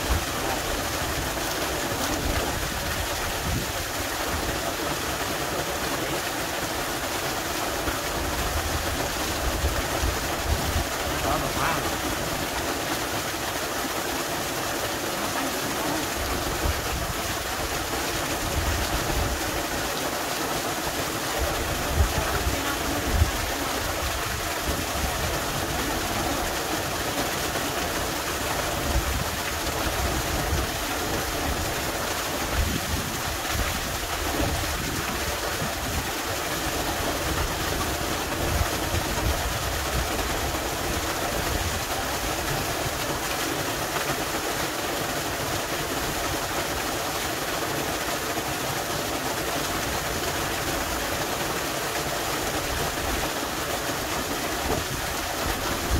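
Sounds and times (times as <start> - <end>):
waterfall splashing on rock: 0.0 - 55.9.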